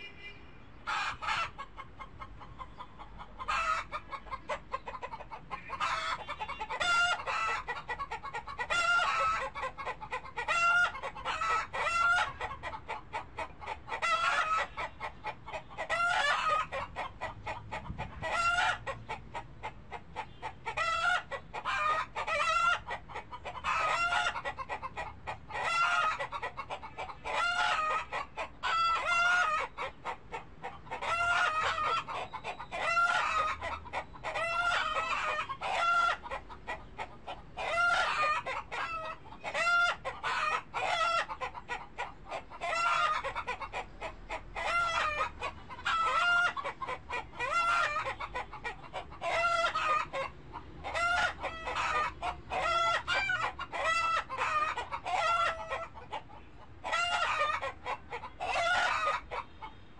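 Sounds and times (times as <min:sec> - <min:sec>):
chickens clucking: 0:00.0 - 0:59.9
chicken pitched call: 0:00.8 - 0:01.9, 0:02.7 - 0:19.2, 0:20.1 - 0:59.8.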